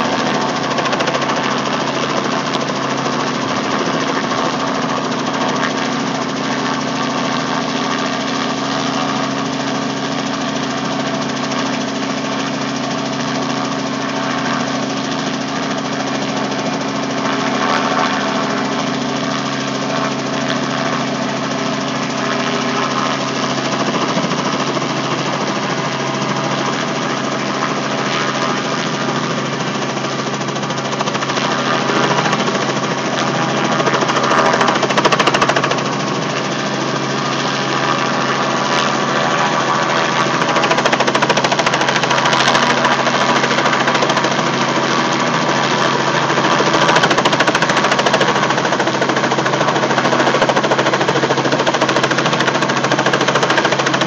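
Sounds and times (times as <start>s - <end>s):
helicopter hovering: 0.0s - 54.0s.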